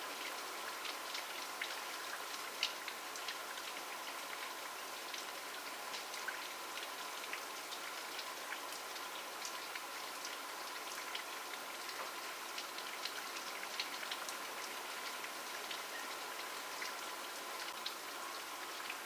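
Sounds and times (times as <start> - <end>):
rain hiss: 0.0 - 19.0
raindrops ticking on a surface: 0.0 - 19.0.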